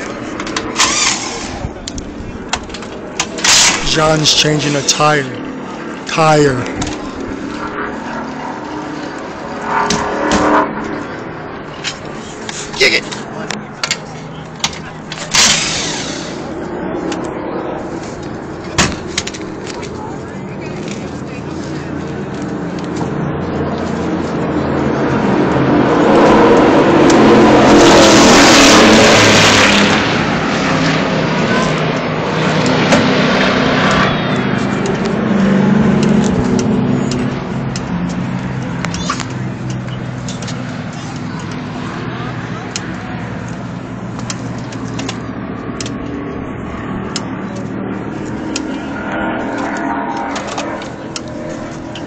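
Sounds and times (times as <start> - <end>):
stock car engine roaring: 0.0 - 52.0.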